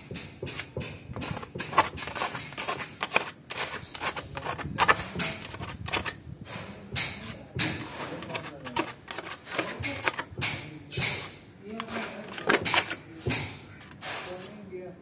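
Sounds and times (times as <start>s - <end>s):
scraper scraping wall tiles: 0.4s - 10.4s, 11.0s - 14.6s.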